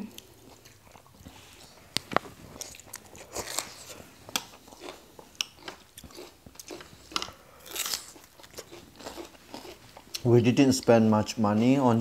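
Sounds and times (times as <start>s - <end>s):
chewing and crunching: 0.0s - 10.9s.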